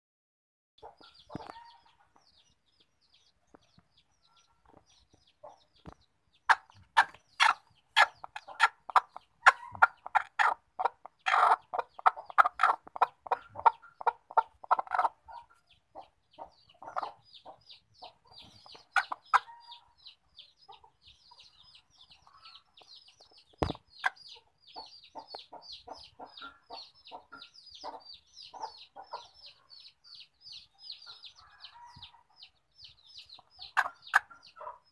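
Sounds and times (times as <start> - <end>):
hen clucking: 0.8 - 34.9.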